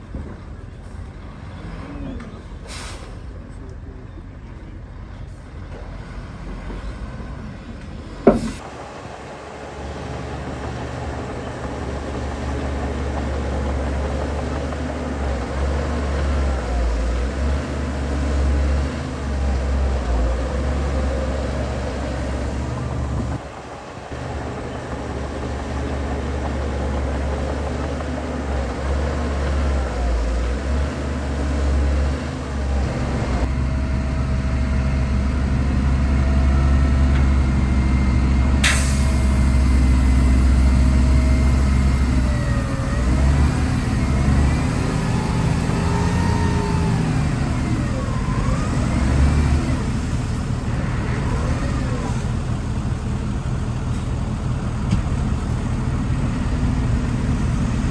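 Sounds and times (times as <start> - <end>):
heavy diesel engine drone: 0.0 - 57.9.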